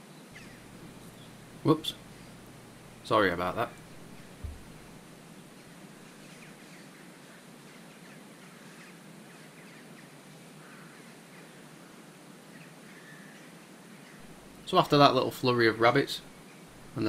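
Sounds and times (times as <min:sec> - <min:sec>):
faint birds chirping: 0:00.0 - 0:11.7, 0:12.5 - 0:17.0
steady outdoor hiss: 0:00.0 - 0:17.0.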